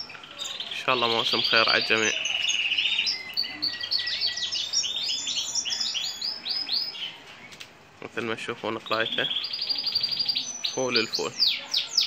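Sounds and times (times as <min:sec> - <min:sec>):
canary singing fast trills: 0:00.0 - 0:07.5, 0:08.2 - 0:12.0.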